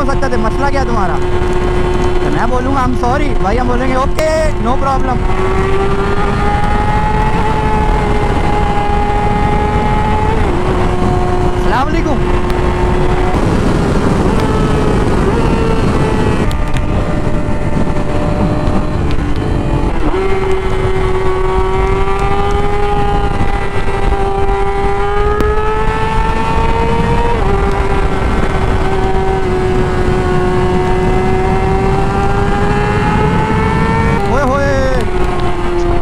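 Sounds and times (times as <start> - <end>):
motorcycle engine at high revs: 0.0 - 36.0
wind rush: 0.0 - 36.0.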